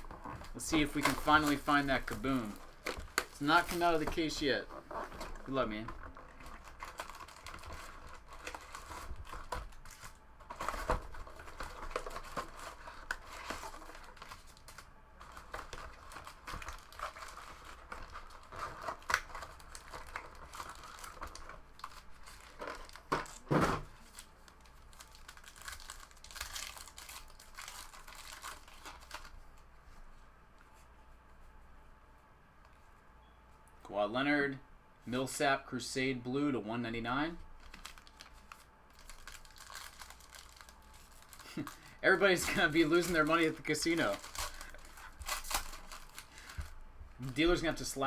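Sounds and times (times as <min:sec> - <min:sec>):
plastic wrapping crinkling and tearing: 0:00.0 - 0:29.6, 0:37.5 - 0:47.5.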